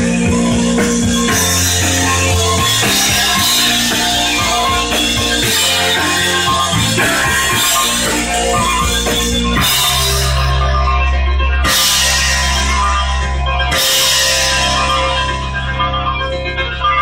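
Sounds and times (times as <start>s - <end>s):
rock music with drums and guitar: 0.0s - 16.5s
sustained bass note: 0.0s - 16.8s.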